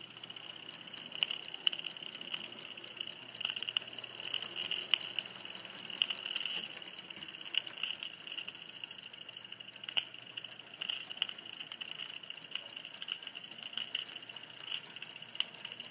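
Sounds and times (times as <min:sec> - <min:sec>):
track clicks: 0:00.0 - 0:15.9.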